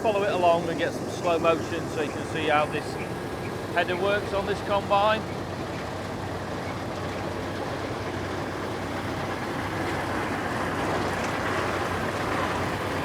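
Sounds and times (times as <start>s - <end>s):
combine harvester droning: 0.0s - 13.0s.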